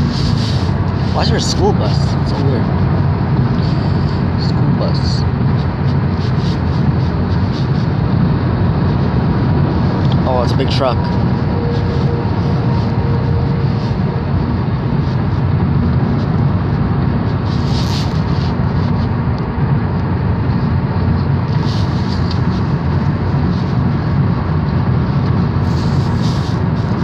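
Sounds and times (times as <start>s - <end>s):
road and engine rumble: 0.0s - 27.0s.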